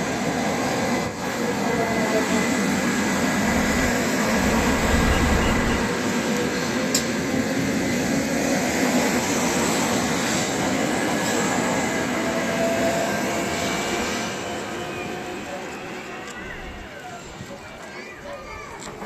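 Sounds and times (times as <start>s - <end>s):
train rushing on rails: 0.0s - 19.0s.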